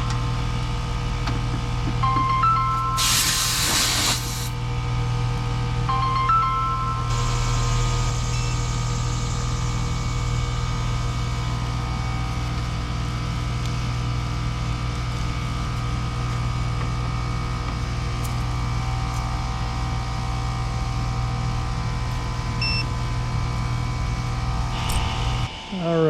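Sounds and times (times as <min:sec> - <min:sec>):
air conditioner unit humming: 0:00.0 - 0:26.0.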